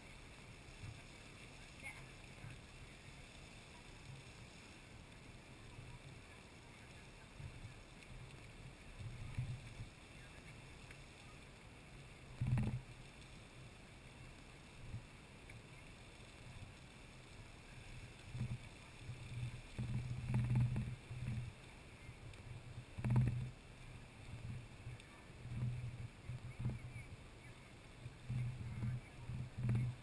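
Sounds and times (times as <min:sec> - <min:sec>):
geyser water and steam rushing: 0:00.0 - 0:30.0.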